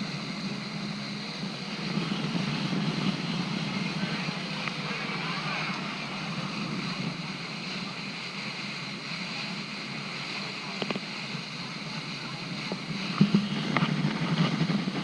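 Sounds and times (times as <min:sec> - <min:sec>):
boat motor hum: 0:00.0 - 0:15.0
wind and water rushing: 0:00.0 - 0:15.0.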